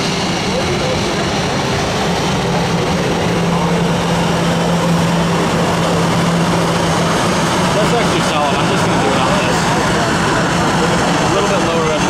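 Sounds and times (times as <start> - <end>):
low hum: 0.0 - 11.4
jet engines rushing: 0.0 - 12.0.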